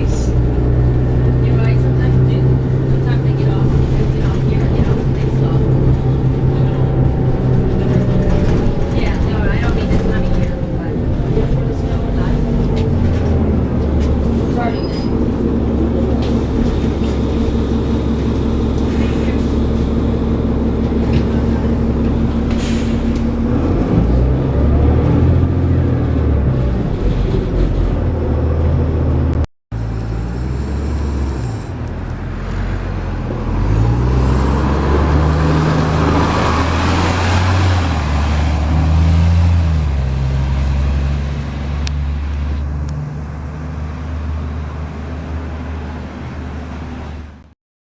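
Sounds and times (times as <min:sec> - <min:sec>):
bus diesel engine accelerating: 0:00.0 - 0:47.5.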